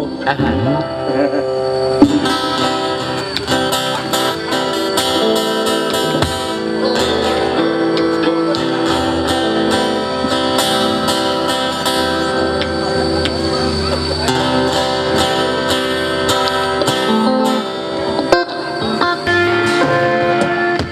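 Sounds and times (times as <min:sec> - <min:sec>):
live band instrumental: 0:00.0 - 0:20.9
strummed guitar chords: 0:00.0 - 0:20.9.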